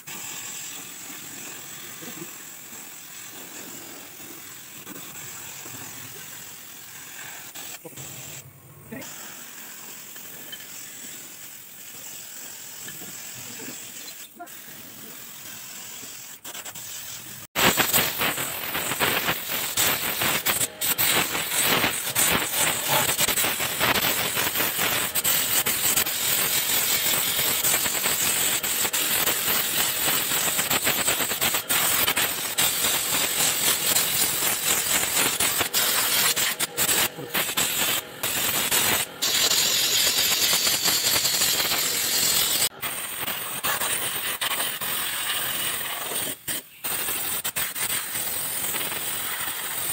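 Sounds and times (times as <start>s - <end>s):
spray paint can hissing: 0.0s - 49.9s.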